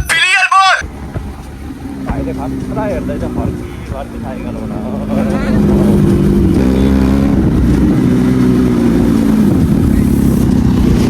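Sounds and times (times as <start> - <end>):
motorcycle engine revving: 0.8 - 11.0.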